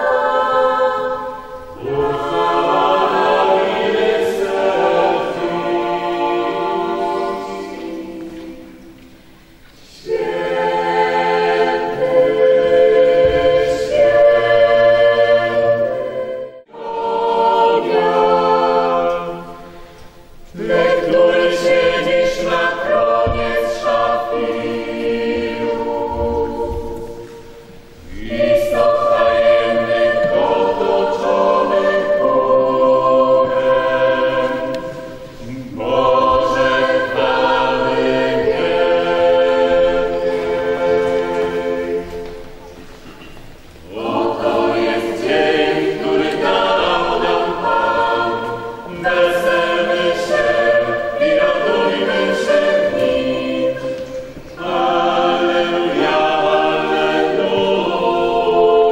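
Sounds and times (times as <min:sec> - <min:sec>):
choir breaths: 0:00.0 - 0:58.9
choir singing a hymn: 0:00.0 - 0:58.9.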